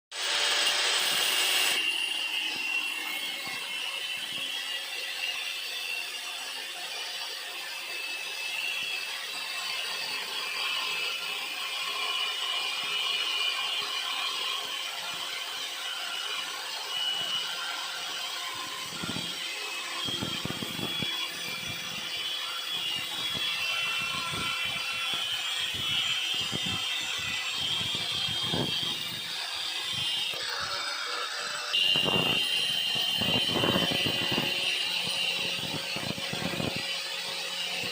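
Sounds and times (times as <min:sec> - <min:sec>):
angle grinder grinding metal: 0:00.1 - 0:37.9.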